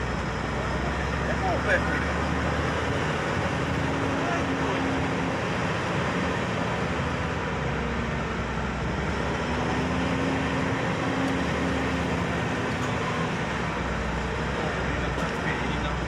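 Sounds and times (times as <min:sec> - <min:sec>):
tyres rumbling on road: 0:00.0 - 0:16.0
vehicle engine hum: 0:00.0 - 0:16.0.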